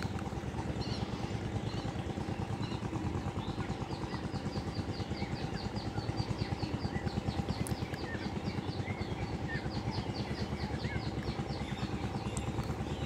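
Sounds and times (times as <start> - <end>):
engine chugging: 0.0 - 13.0.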